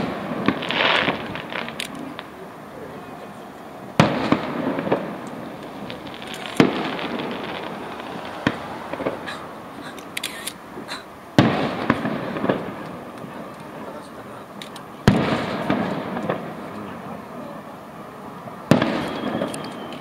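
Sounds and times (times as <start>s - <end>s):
firework shells bursting: 0.0s - 2.6s, 3.3s - 16.8s, 18.7s - 20.0s
firework crackling: 0.0s - 20.0s.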